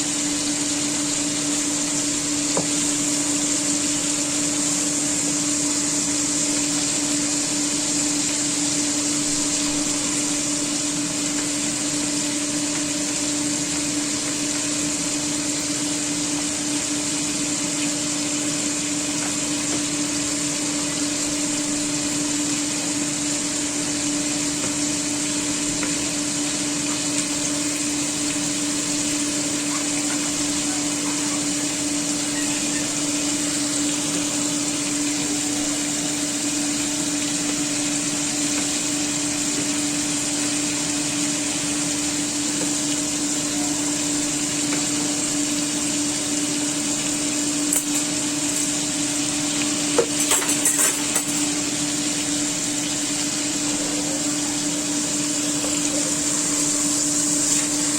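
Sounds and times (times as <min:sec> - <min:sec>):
motor hum: 0:00.0 - 0:57.9.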